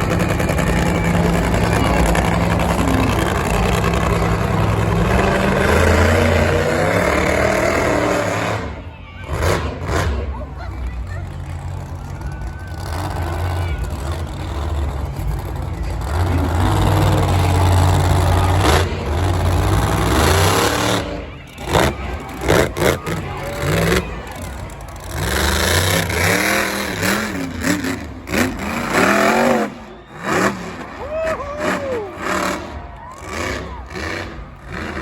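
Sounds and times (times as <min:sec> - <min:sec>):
truck engine running loud: 0:00.0 - 0:35.0
voices: 0:00.0 - 0:35.0.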